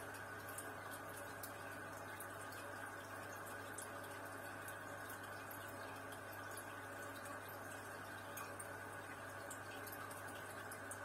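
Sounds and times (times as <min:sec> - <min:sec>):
aquarium filter bubbling: 0:00.0 - 0:11.0
low steady hum: 0:00.0 - 0:11.0.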